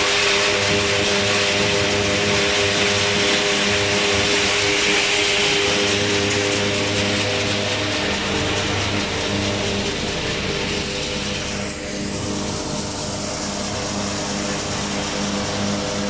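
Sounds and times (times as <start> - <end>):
threshing machine humming: 0.0 - 16.0.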